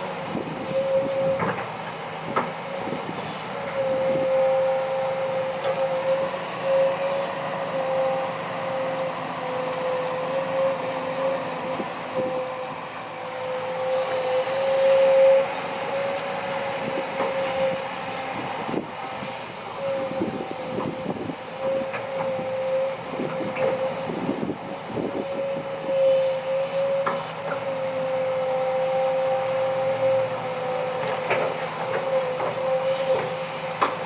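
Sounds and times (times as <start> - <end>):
excavator hydraulics whining: 0.0 - 34.0.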